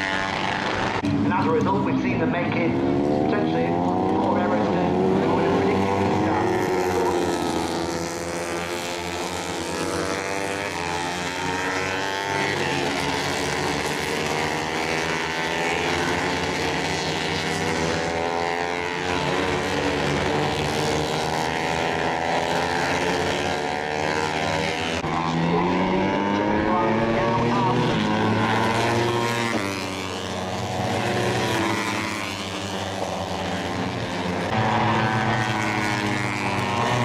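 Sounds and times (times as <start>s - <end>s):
race bike engines revving: 0.0s - 37.0s.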